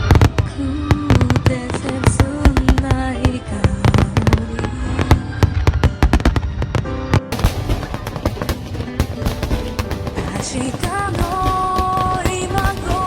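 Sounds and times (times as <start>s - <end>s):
fireworks banging: 0.0s - 13.0s
music playing: 0.0s - 13.0s.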